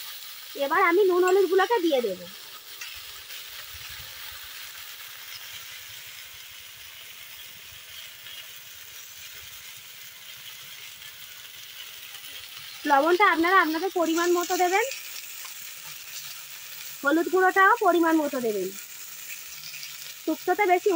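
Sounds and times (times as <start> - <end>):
vegetables sizzling in a wok: 0.0 - 20.9.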